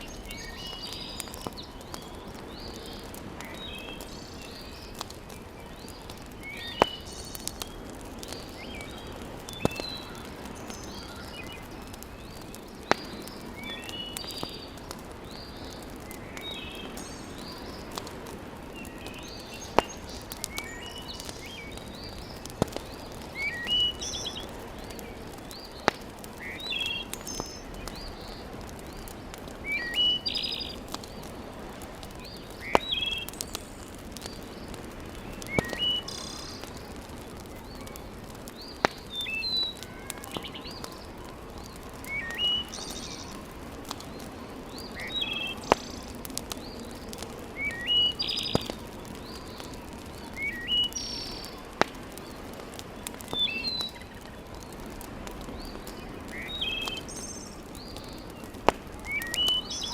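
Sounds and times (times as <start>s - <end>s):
wood fire hissing and crackling: 0.0s - 59.9s.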